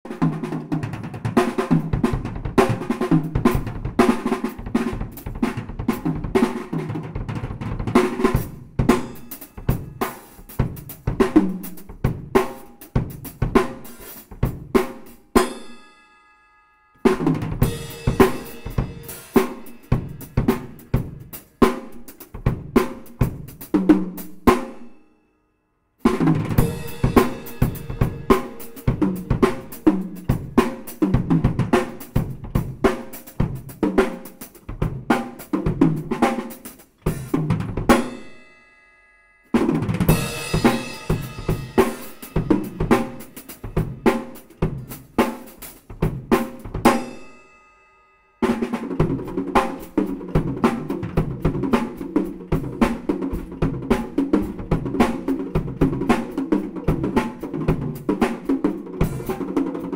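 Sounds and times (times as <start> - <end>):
acoustic drum kit playing: 0.0 - 15.9, 17.0 - 24.9, 26.0 - 38.5, 39.6 - 47.5, 48.4 - 59.9.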